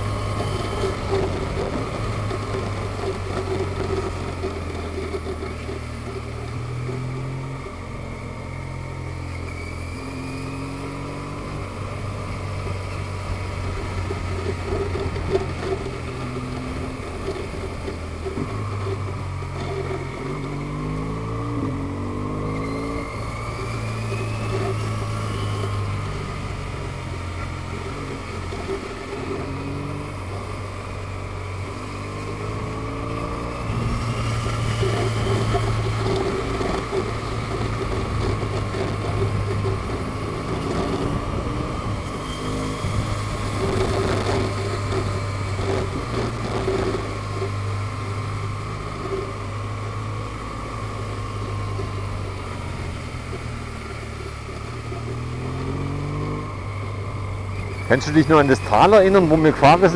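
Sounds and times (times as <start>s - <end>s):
wind noise: 0.0s - 8.0s, 10.5s - 59.9s
vehicle engine accelerating: 0.0s - 59.9s.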